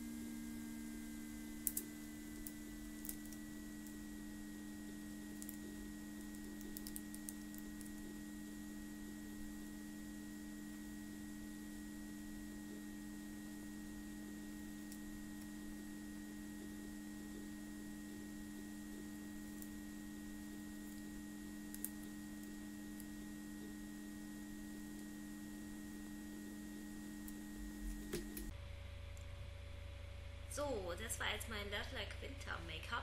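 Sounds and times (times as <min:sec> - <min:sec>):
faint high whine: 0:00.0 - 0:33.0
low electrical hum: 0:00.0 - 0:33.0.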